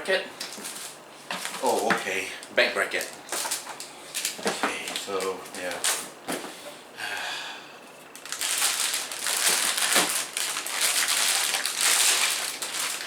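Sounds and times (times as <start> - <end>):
plastic packaging crinkling: 0.4 - 6.2, 8.1 - 13.0.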